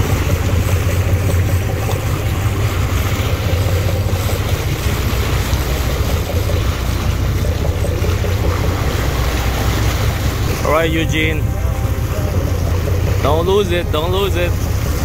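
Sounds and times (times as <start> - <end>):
boat engine running: 0.0 - 15.0
water washing around hull: 0.0 - 15.0.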